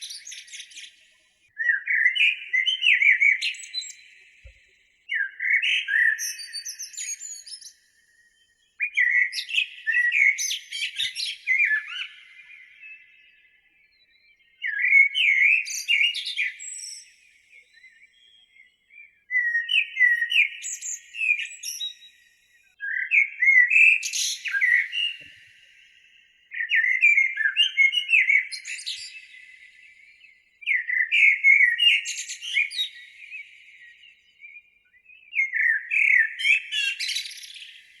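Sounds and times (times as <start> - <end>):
bird chirping song: 0.0 - 38.0.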